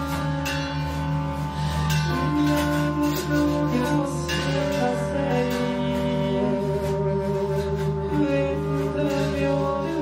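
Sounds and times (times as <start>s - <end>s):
improvised band music: 0.0s - 10.0s.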